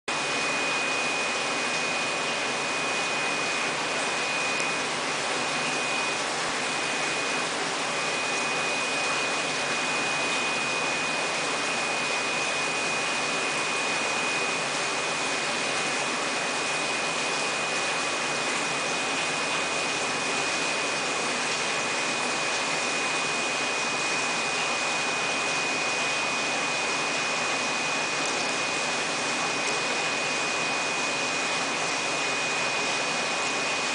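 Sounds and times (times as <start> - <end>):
high-pitched machine whine: 0.1 - 33.9.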